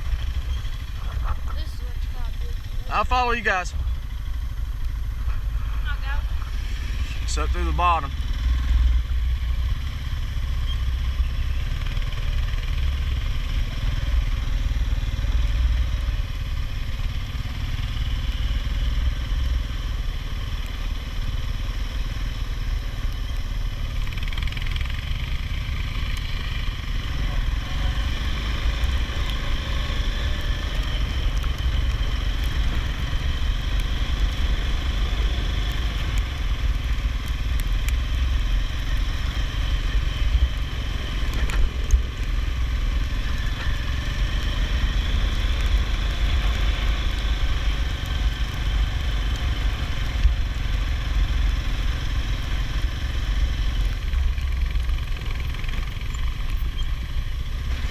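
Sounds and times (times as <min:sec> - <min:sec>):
atv engine rumble: 0:00.0 - 0:57.9.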